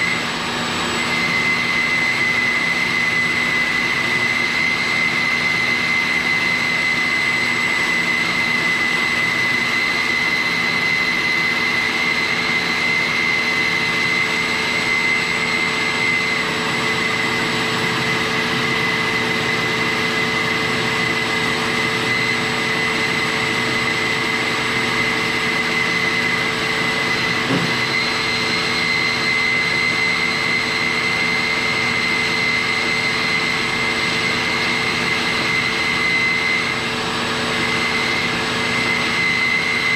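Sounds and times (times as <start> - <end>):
band saw humming: 0.0 - 39.9
shop vacuum whining: 0.0 - 39.9.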